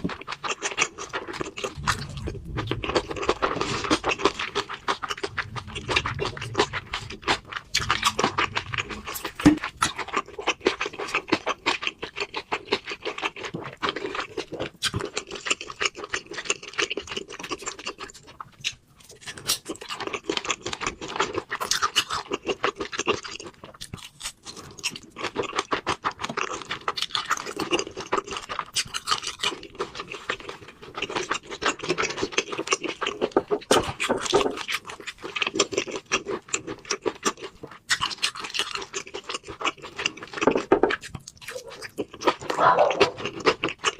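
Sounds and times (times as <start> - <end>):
chewing and smacking: 0.0 - 43.9.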